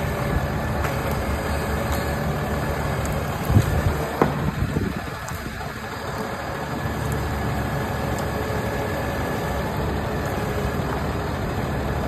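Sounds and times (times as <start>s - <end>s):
heavy diesel machinery rumbling: 0.0s - 12.0s.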